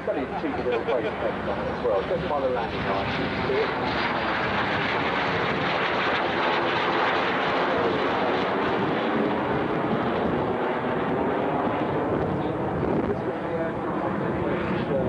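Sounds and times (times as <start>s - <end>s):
jet engine running loud: 0.0s - 15.0s.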